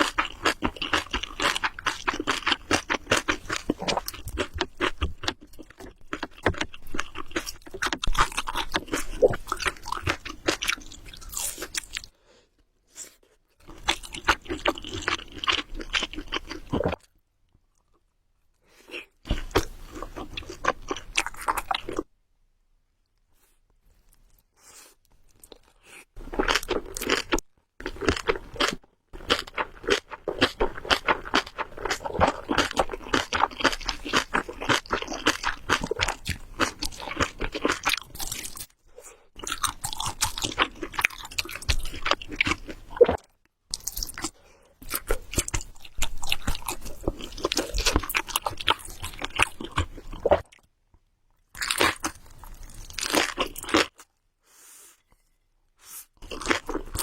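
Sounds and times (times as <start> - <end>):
person chewing food: 0.0 - 12.2, 13.6 - 22.1, 23.4 - 50.7, 51.4 - 54.2, 56.2 - 57.0.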